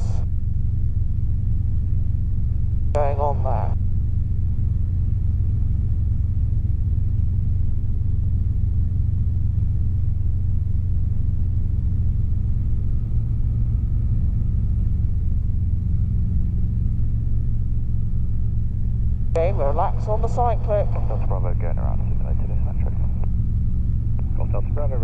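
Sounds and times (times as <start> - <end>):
helicopter engine and rotors droning: 0.0 - 25.0.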